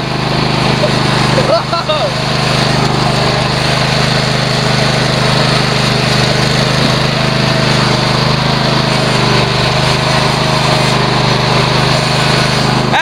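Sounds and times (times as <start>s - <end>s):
lawnmower engine running: 0.0s - 13.0s.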